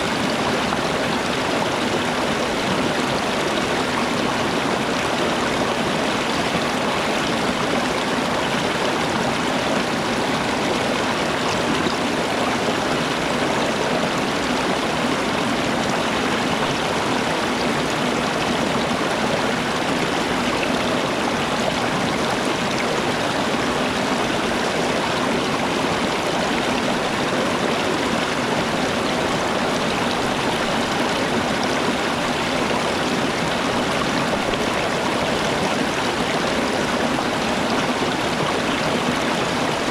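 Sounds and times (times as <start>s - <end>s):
rushing running water: 0.0s - 39.9s.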